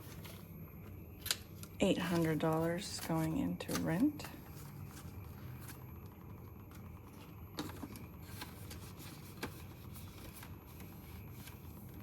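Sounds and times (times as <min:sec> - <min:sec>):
banknotes rustling: 0:00.0 - 0:05.8, 0:06.7 - 0:12.0.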